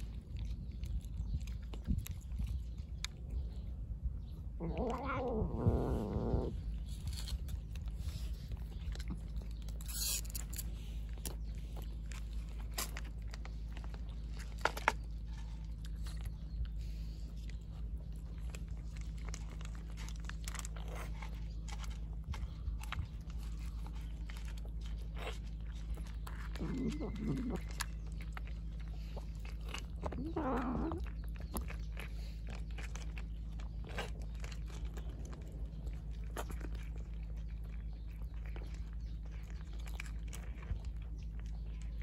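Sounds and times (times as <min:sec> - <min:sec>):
cat chewing food: 0:00.0 - 0:42.0
low rumble: 0:00.0 - 0:42.0.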